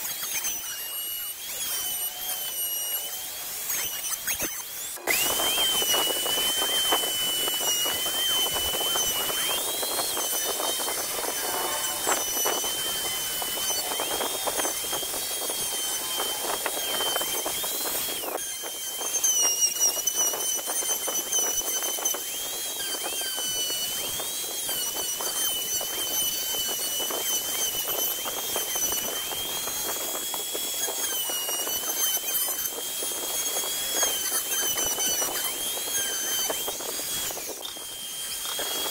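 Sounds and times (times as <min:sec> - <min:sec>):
electric router whining: 0:00.0 - 0:38.9
router bit rasping wood: 0:00.0 - 0:38.9.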